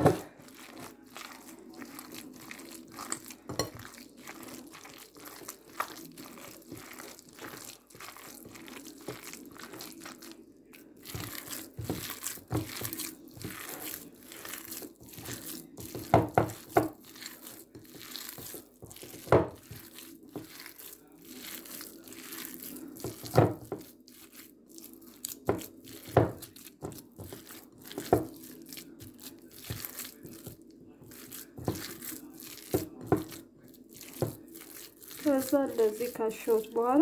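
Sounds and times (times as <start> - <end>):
hand kneading wet meat: 0.0 - 37.0
slaps of meat mixture: 0.0 - 37.0.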